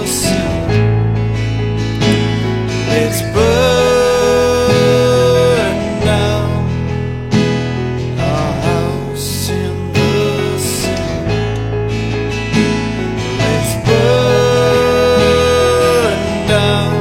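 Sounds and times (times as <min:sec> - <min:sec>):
guitar: 0:00.0 - 0:17.0
steady bass: 0:00.0 - 0:17.0.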